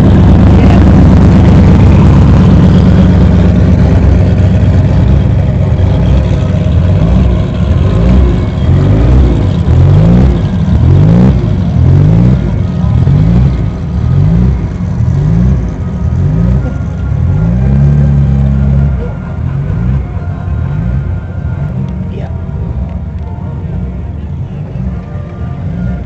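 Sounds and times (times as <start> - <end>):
vehicle engine revving: 0.0 - 26.0.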